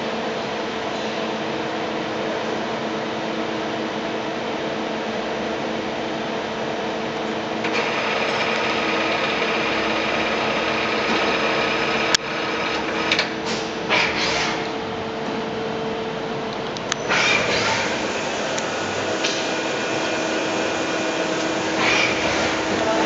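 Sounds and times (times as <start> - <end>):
lathe humming and whining: 0.0 - 23.0.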